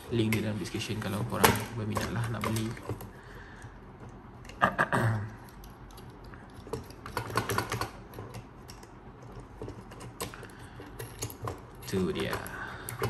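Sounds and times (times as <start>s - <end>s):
plastic and metal parts clicking: 0.2s - 4.6s, 5.4s - 13.0s.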